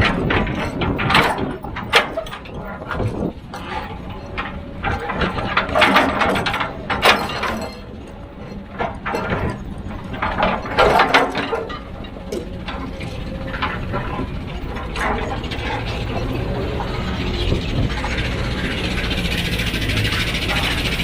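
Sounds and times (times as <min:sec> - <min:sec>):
low machine rumble: 0:00.0 - 0:21.0
machinery clanking and scraping rock: 0:00.0 - 0:21.0.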